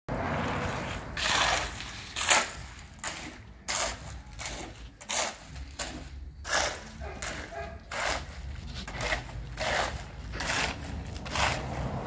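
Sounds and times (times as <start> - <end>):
shovel scraping wet concrete: 0.1 - 12.0.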